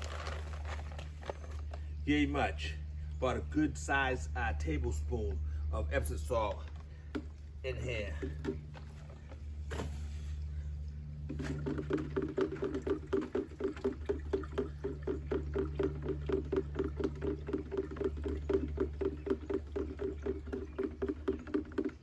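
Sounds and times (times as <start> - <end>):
steady low hum: 0.0 - 22.0
water sloshing in a container: 0.0 - 22.0.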